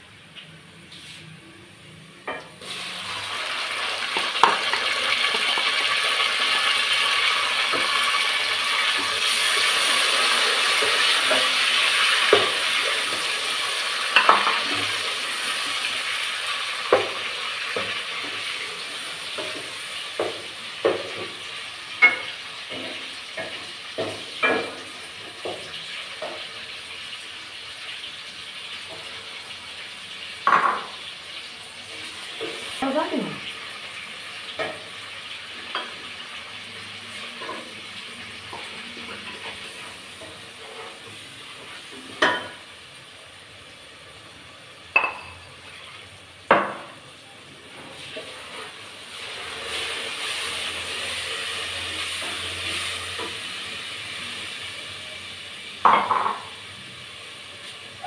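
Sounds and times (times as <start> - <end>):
tomatoes sizzling in a pot: 0.0 - 58.0.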